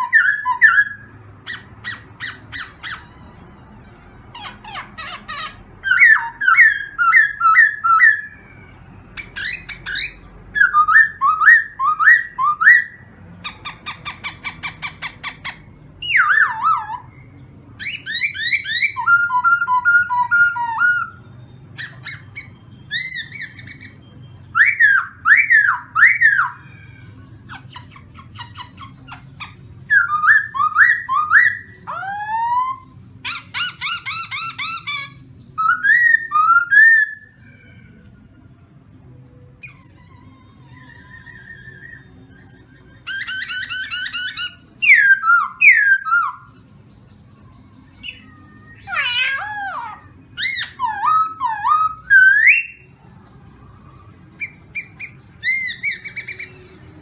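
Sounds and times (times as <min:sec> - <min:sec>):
bird whistling and chattering song: 0:00.0 - 0:38.1, 0:38.9 - 0:53.0, 0:53.8 - 0:57.0.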